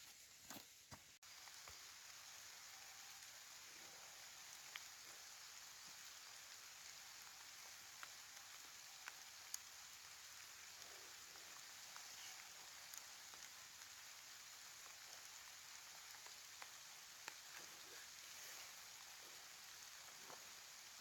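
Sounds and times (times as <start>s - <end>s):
rain hiss: 0.0s - 21.0s
single raindrops ticking: 1.3s - 21.0s.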